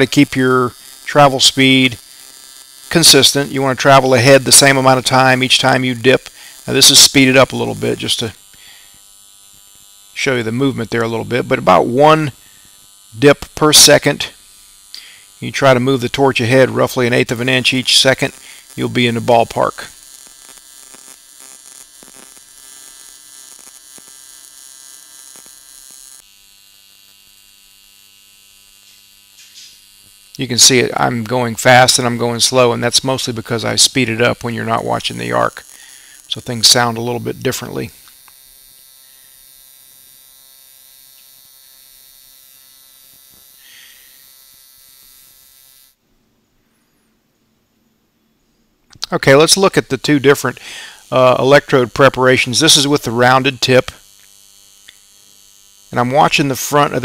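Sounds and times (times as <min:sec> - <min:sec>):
welding arc buzzing: 0:00.0 - 0:47.1, 0:48.8 - 0:57.0.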